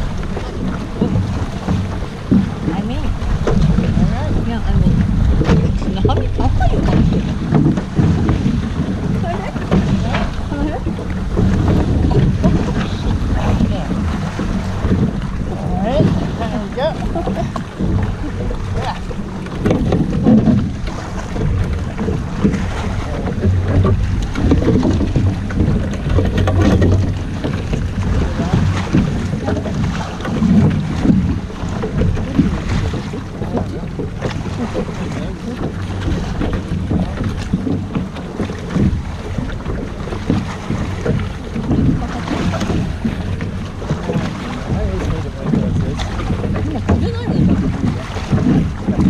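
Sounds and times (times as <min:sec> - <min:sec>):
water slapping at hull: 0:00.0 - 0:49.0
wind buffeting microphone: 0:00.0 - 0:49.0.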